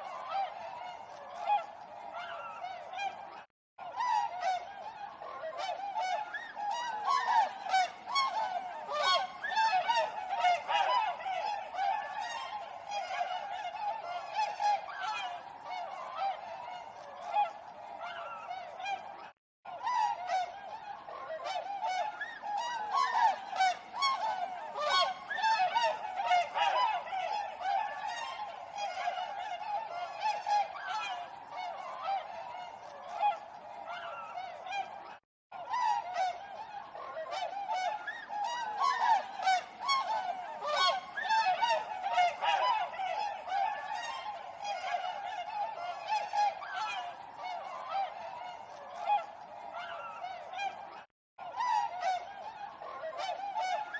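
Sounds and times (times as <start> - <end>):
swans honking: 0.0 - 53.9.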